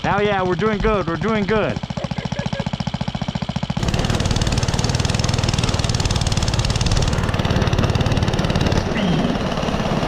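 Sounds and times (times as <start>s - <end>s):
small engine revving: 1.2s - 10.0s.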